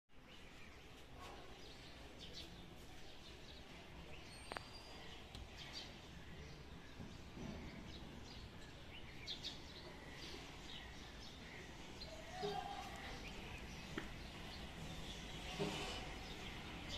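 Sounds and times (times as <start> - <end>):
birds chirping faintly: 0.1 - 16.9.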